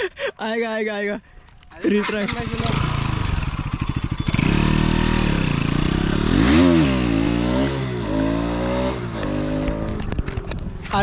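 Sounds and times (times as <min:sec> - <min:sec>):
motorcycle engine revving: 0:01.8 - 0:10.9.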